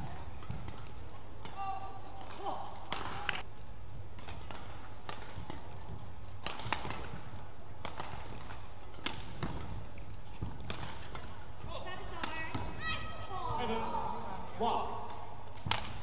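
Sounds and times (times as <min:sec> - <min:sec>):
rackets striking shuttlecock: 0:00.0 - 0:16.0.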